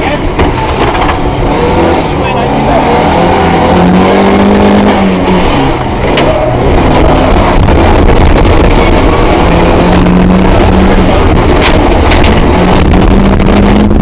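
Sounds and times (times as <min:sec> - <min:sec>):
rally car engine running hard: 0:00.0 - 0:14.0
road noise rush: 0:00.0 - 0:14.0.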